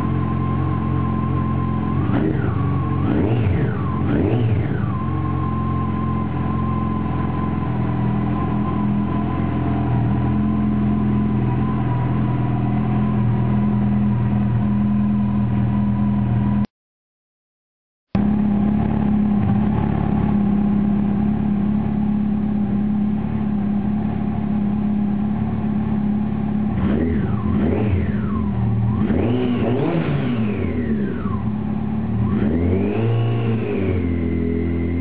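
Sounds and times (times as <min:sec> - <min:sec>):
motorcycle engine revving and idling: 0:00.0 - 0:16.7, 0:18.1 - 0:35.0.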